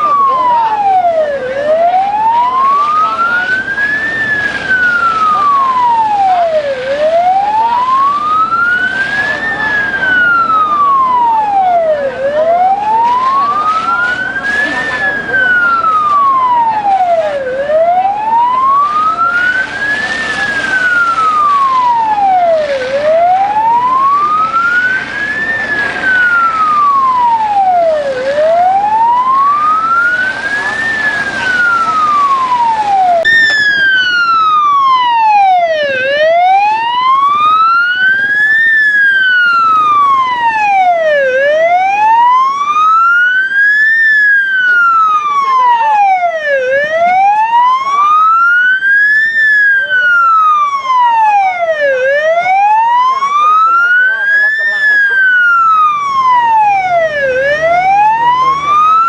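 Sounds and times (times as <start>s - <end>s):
emergency siren wailing: 0.0s - 59.0s.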